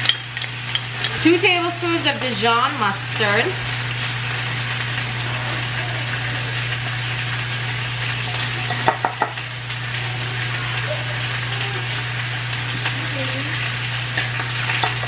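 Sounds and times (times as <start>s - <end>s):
chicken sizzling in skillet: 0.0s - 15.0s.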